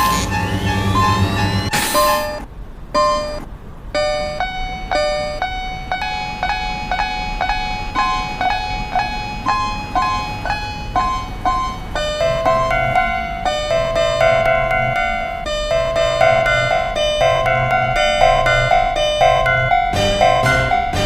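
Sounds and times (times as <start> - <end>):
cartoon crossing warning chime: 0.0 - 21.0.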